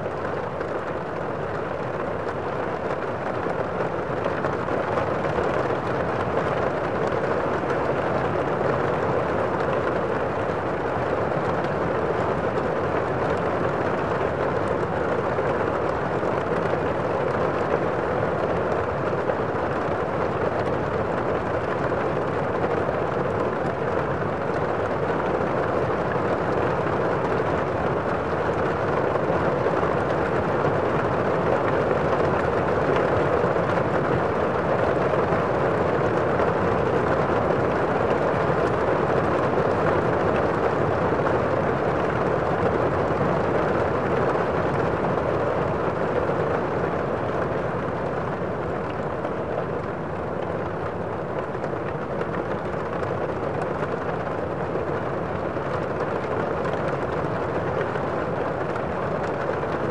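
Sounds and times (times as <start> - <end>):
muffled heavy rain: 0.0 - 59.9.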